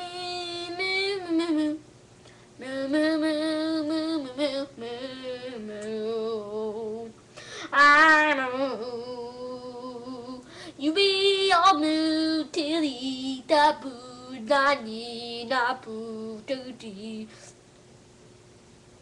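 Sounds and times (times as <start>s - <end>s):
boy singing wordless tune: 0.0s - 1.9s, 2.6s - 17.5s.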